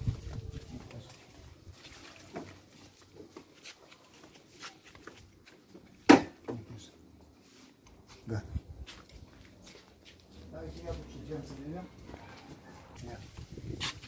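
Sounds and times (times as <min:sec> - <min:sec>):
flip-flop footsteps on concrete: 0:00.0 - 0:06.2, 0:07.2 - 0:12.6.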